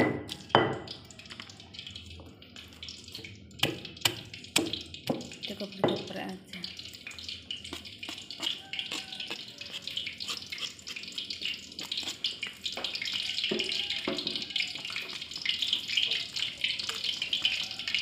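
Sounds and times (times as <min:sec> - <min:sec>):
oil sizzling in a wok: 0:00.2 - 0:18.0.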